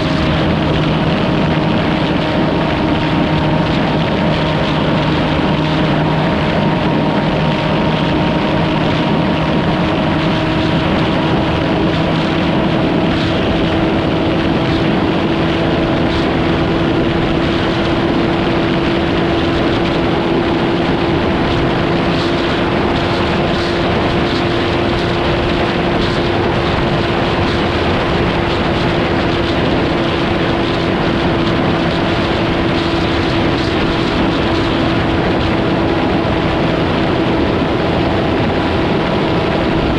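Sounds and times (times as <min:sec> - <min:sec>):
even rushing noise: 0:00.0 - 0:39.9
vehicle engine droning: 0:00.0 - 0:39.9.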